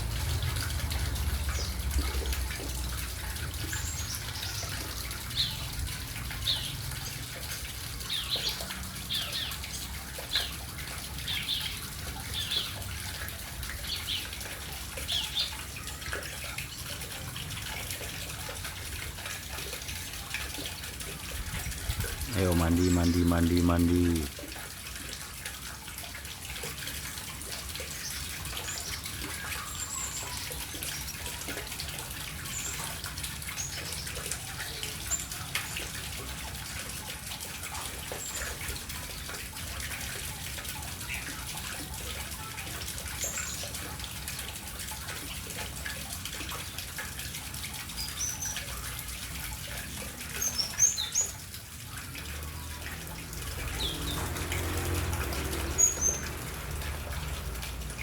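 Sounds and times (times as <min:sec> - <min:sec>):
birds splashing in water: 0:00.0 - 0:58.0.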